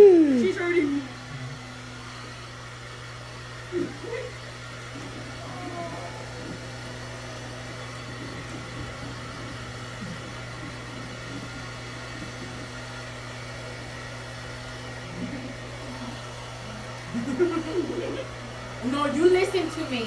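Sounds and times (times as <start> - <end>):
hair dryer running: 0.0 - 20.0.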